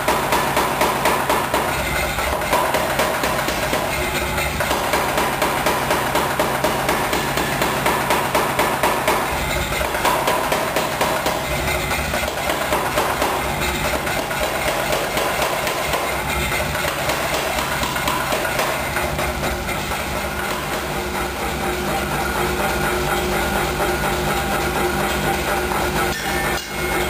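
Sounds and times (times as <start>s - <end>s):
power hammer pounding hot iron: 0.0s - 27.0s.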